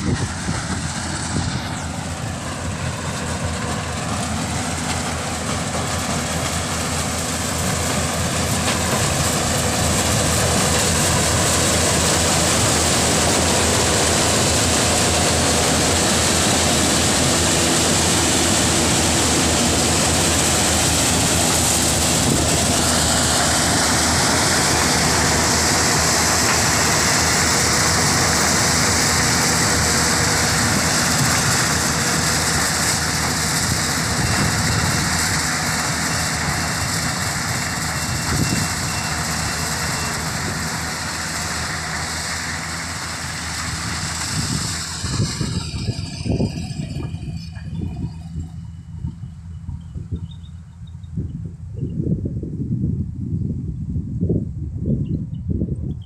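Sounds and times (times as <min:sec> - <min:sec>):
high machine whine: 0:00.0 - 0:51.7
combine harvester running: 0:00.0 - 0:56.0.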